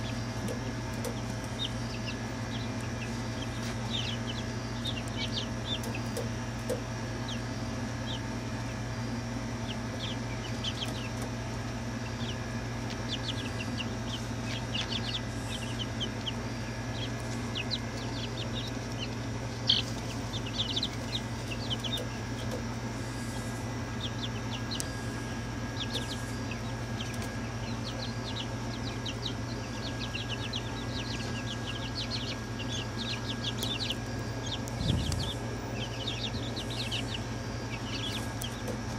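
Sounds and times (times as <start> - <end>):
chicks peeping and chirping: 0.0 - 38.9
steady low hum: 0.0 - 38.9.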